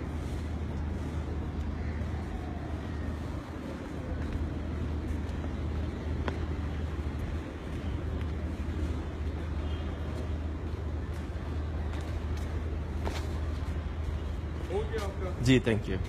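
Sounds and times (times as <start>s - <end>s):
distant crowd murmur: 0.0s - 16.0s
low outdoor rumble: 0.0s - 16.0s.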